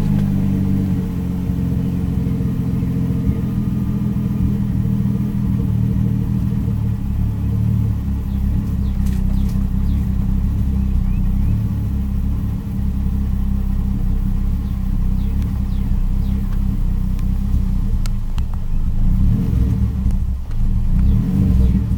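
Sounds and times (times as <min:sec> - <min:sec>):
car engine struggling to rev: 0:00.0 - 0:21.9.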